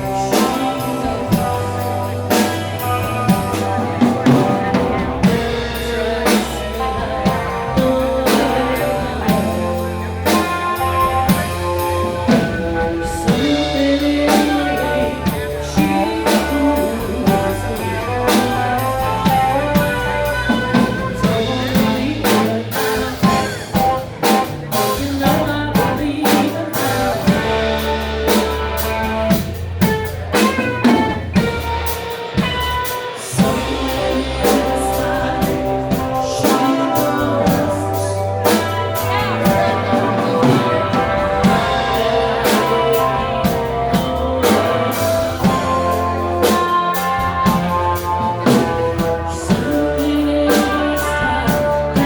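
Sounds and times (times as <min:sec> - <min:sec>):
bass guitar: 0:00.0 - 0:52.0
drum kit beat: 0:00.0 - 0:52.0
electric guitar: 0:00.0 - 0:52.0.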